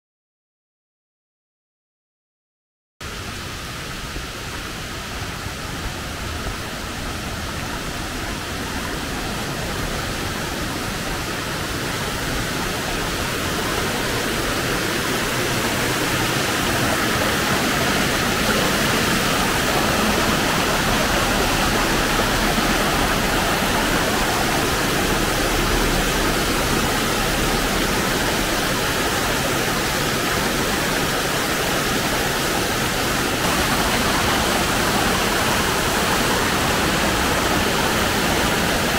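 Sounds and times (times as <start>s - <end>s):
flowing water: 3.0s - 38.9s.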